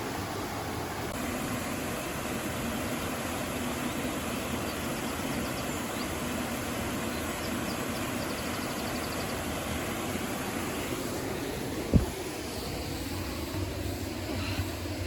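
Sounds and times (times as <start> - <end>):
river and waterfall rushing: 0.0 - 15.0.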